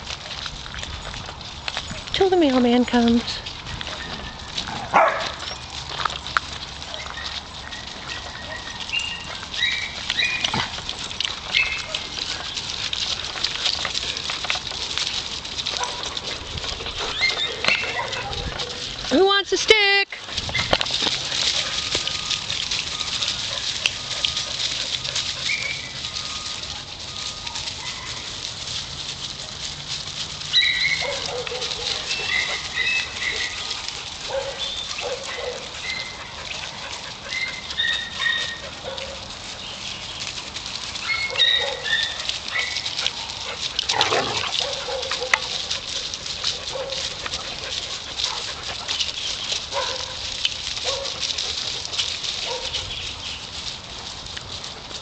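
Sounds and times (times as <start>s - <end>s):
dogs barking and yipping: 0.0s - 55.0s.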